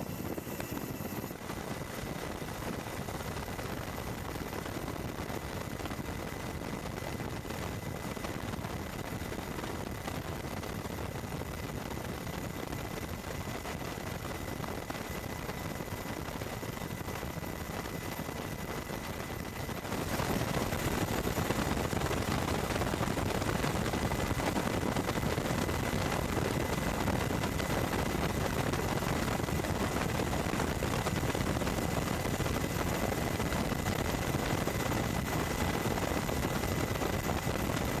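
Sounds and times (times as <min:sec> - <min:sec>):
faint high whine: 0:00.0 - 0:38.0
helicopter rotor and engine rumble: 0:00.0 - 0:38.0.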